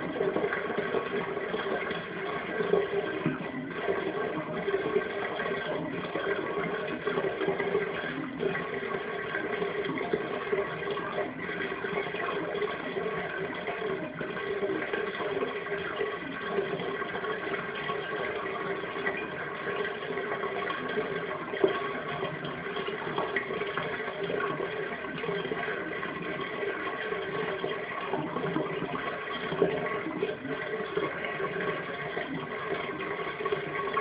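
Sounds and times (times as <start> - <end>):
drain popping: 0.0 - 34.0
water draining from bathtub: 0.0 - 34.0.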